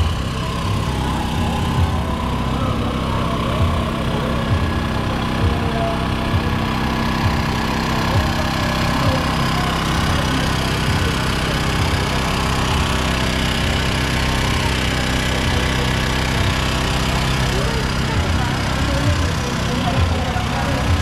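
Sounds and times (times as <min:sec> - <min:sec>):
engine-like hum: 0:00.0 - 0:21.0
murmur of people: 0:00.0 - 0:21.0.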